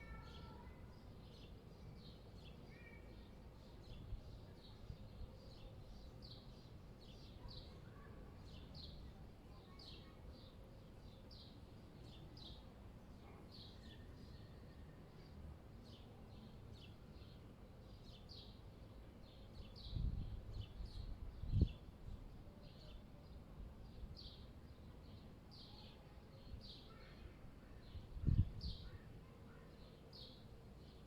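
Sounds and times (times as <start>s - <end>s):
small birds chirping: 0.0s - 14.6s, 15.2s - 31.0s
low city background: 0.0s - 31.0s.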